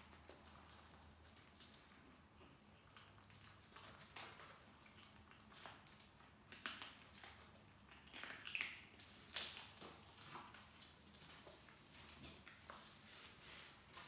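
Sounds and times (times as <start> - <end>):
kittens crunching dry kibble: 0.0 - 14.0.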